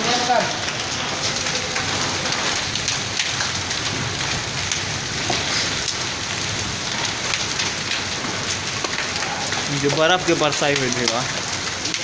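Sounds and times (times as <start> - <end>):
hailstones ticking on concrete: 0.0 - 12.0
heavy rain hissing: 0.0 - 12.0.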